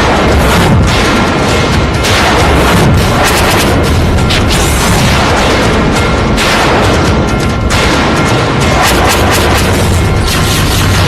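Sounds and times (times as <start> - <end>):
heavy booms and crashing hits: 0.0 - 11.0
loud dramatic music: 0.0 - 11.0.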